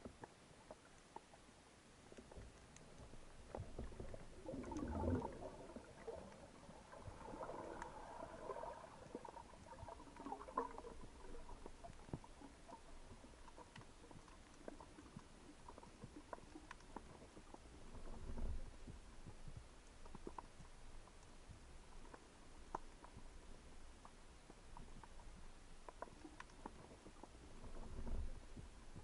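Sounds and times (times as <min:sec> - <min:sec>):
low underwater rumble: 0:00.0 - 0:29.0
small underwater clicks: 0:00.0 - 0:29.0.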